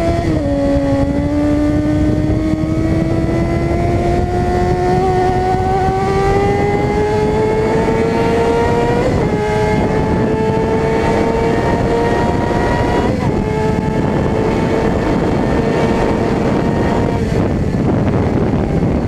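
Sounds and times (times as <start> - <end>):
motorcycle engine revving high: 0.0 - 19.0
steady rushing noise: 0.0 - 19.0.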